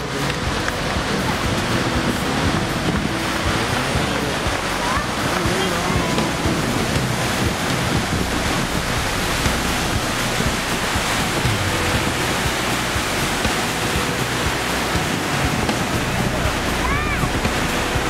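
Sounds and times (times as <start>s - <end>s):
waves breaking rushing: 0.0s - 18.0s
wind buffeting microphone: 0.0s - 18.0s.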